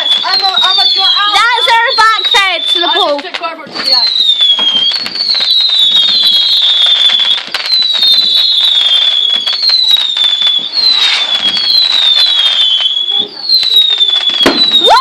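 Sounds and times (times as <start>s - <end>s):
fireworks crackling and popping: 0.0s - 15.0s
fireworks whistling: 0.0s - 15.0s.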